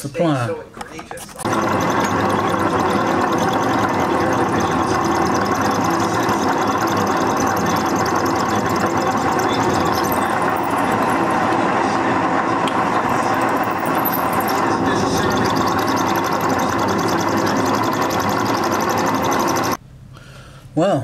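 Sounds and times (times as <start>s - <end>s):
milling machine running: 1.4s - 19.8s.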